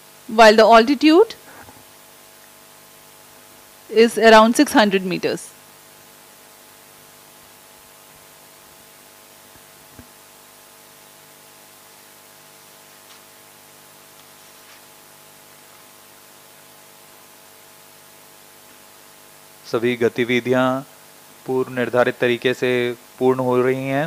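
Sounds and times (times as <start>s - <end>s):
low electrical hum: 0.0s - 24.0s
steady hiss: 0.0s - 24.0s.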